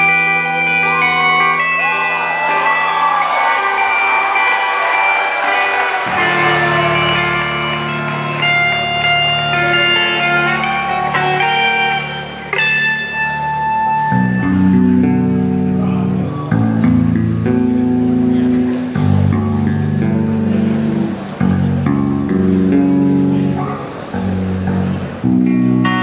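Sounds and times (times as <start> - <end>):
instrumental rock band: 0.0 - 26.0.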